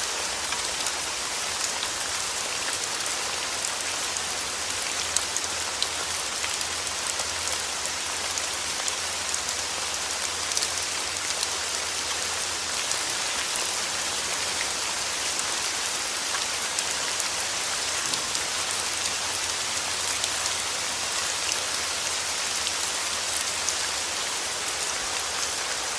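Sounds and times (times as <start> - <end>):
rain falling on a surface: 0.0 - 25.9.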